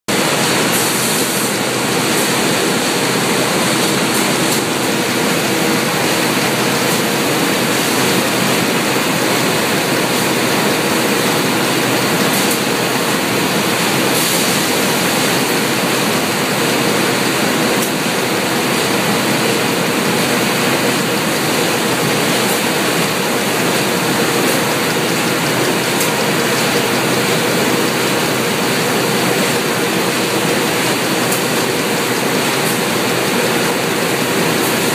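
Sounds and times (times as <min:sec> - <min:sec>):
factory machinery rushing: 0:00.1 - 0:34.9.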